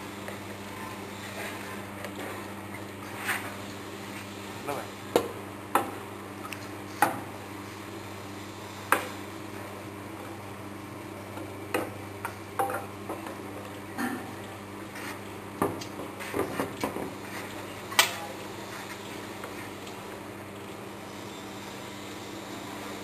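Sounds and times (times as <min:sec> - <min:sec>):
extruder electric hum: 0:00.0 - 0:23.0.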